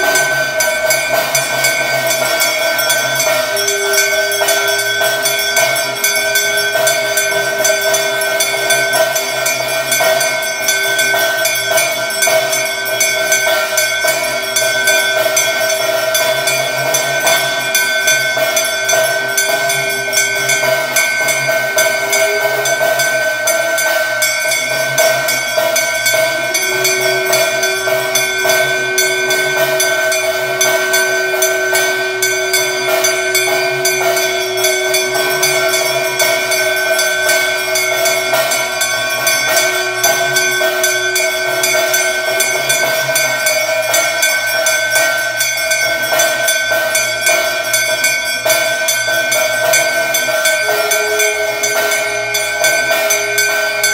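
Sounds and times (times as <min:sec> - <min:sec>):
low held tone: 0:00.0 - 0:53.9
temple bells ringing: 0:00.0 - 0:53.9.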